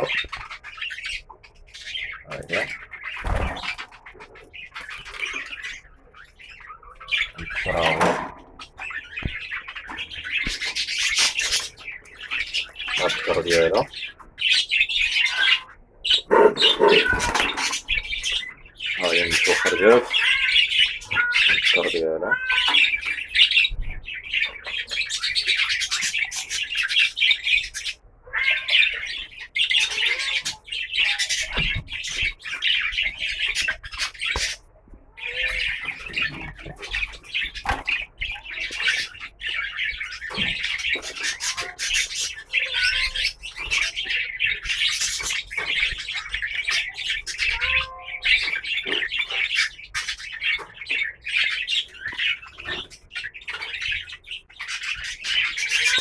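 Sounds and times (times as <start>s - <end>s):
birds chirping and chattering: 0.0s - 56.0s.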